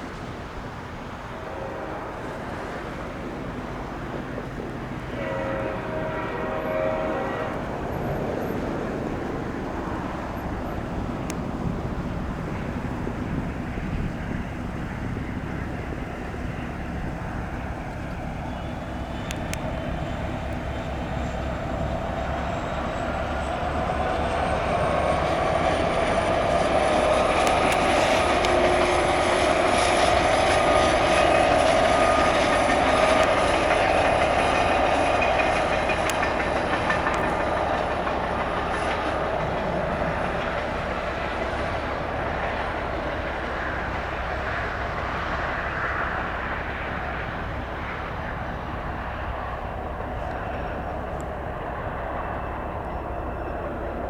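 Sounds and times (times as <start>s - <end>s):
diesel locomotive rolling past: 0.0s - 54.0s.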